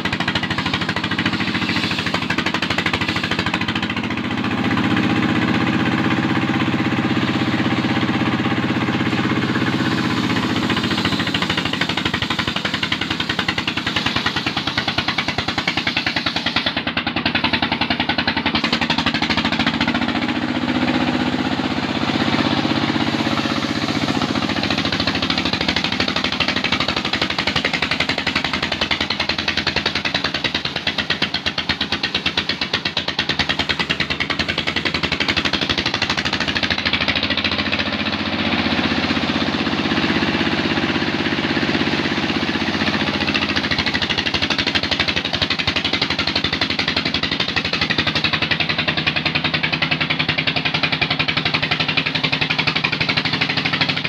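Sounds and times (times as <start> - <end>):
diesel engine knocking: 0.0 - 54.0
saw cutting logs: 0.0 - 54.0.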